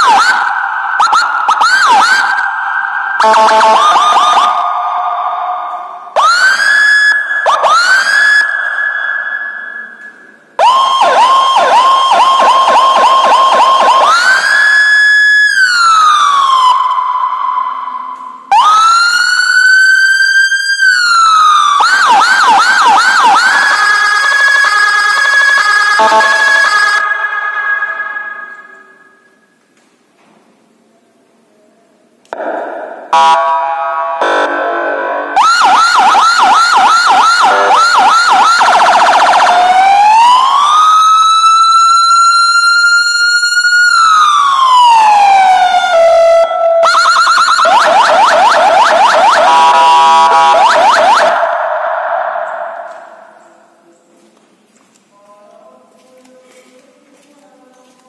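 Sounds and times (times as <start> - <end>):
electronic siren: 0.0 - 29.5, 32.4 - 53.4.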